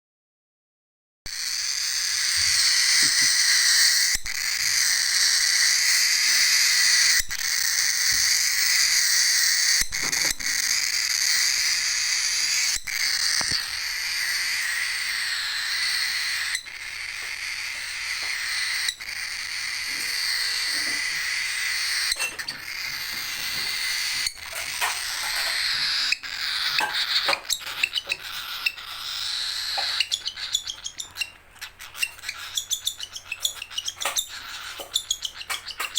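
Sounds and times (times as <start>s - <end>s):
baby cockatiel begging calls: 1.3s - 35.9s.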